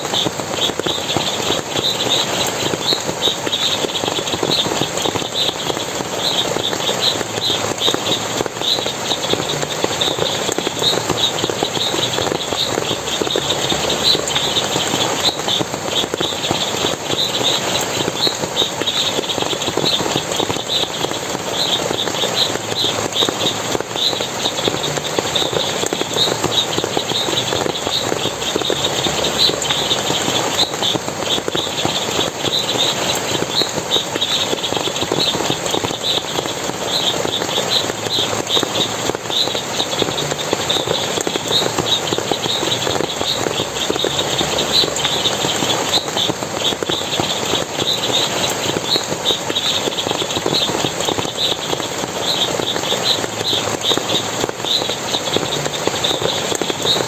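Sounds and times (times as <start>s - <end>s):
water splashing and running: 0.0s - 57.0s.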